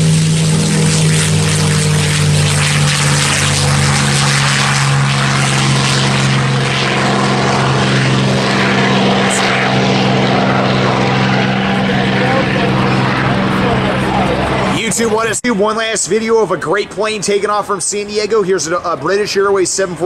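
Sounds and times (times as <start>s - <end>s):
aircraft engines droning: 0.0s - 20.0s.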